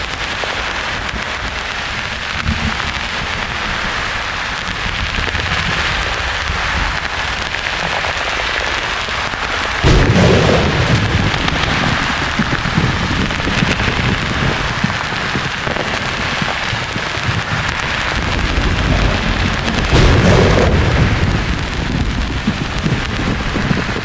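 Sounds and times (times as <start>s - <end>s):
steady hiss: 0.0s - 24.0s
thunder rumbling: 0.0s - 24.0s.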